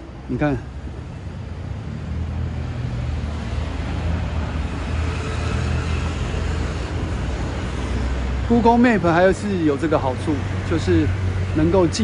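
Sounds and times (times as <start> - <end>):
road traffic rumble: 0.0 - 12.0
vehicle passing: 0.6 - 12.0.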